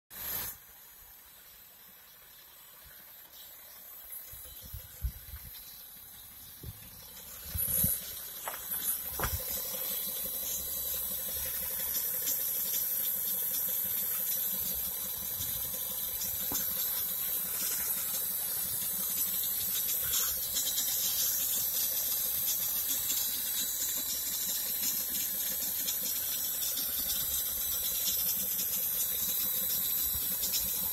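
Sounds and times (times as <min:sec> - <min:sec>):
hissing rushing noise in tank: 0:00.1 - 0:30.9.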